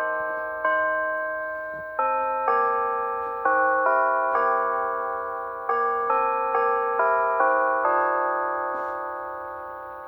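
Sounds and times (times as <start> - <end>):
church bells chiming: 0.0 - 10.0.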